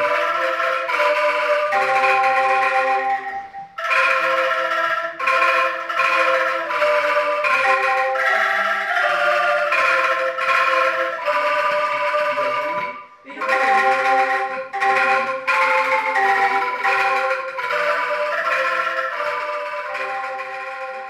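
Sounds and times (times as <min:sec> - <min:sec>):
bamboo angklung ensemble: 0:00.0 - 0:21.0.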